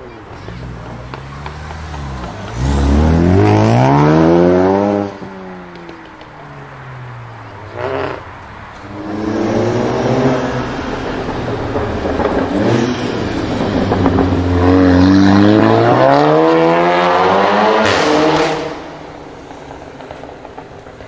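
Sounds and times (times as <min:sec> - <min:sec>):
car engine accelerating hard: 0:00.4 - 0:06.0, 0:07.0 - 0:19.0.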